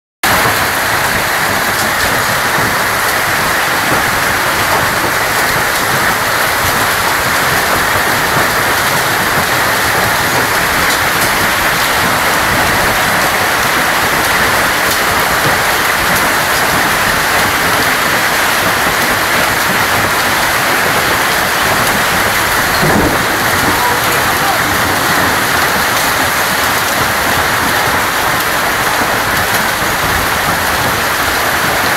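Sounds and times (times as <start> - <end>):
hail and rain pelting down: 0.2 - 31.9
hailstones striking: 0.3 - 31.9.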